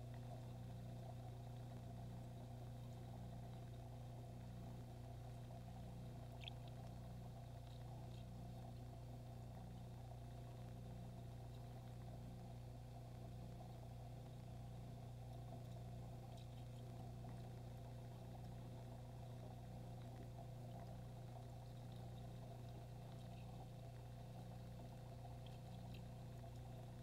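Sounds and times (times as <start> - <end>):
aquarium equipment humming: 0.0 - 27.0
small tick: 0.0 - 27.0
soft water wash: 0.0 - 27.0.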